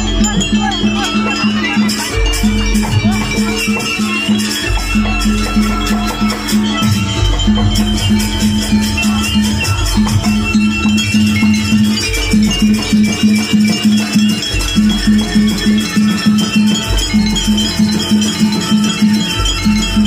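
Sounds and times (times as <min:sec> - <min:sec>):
high melody line: 0:00.0 - 0:20.0.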